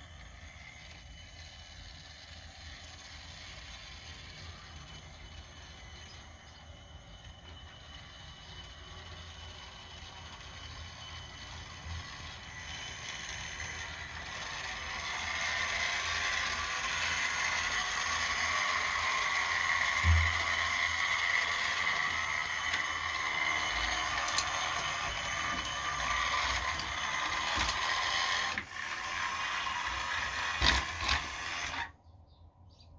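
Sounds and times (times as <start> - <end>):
toy train motor whirring: 0.0 - 32.0.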